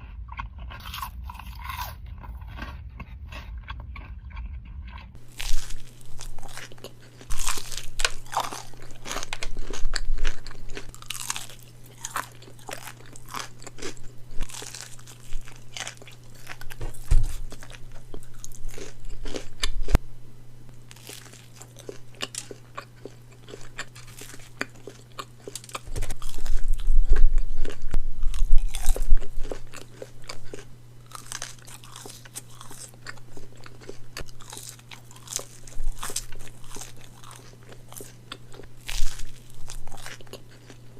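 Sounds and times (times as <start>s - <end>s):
crunchy bites and chewing: 0.0s - 20.0s, 20.7s - 40.9s
steady low hum: 0.0s - 40.9s.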